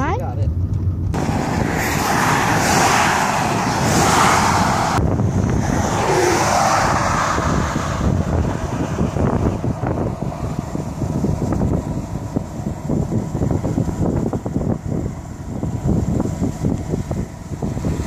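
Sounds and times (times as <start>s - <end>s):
car road noise: 0.0s - 18.0s
wind on microphone: 1.0s - 18.0s.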